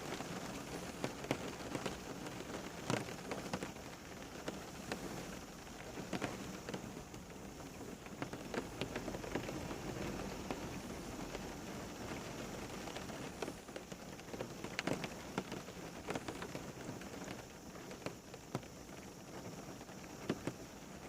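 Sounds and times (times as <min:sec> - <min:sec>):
steady rain hiss: 0:00.0 - 0:21.0
raindrops ticking: 0:00.1 - 0:21.0.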